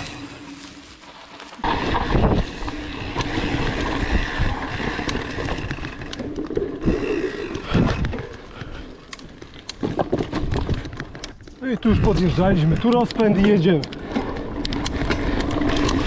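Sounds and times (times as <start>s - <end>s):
mountain bike rattling on dirt trail: 0.0s - 16.0s.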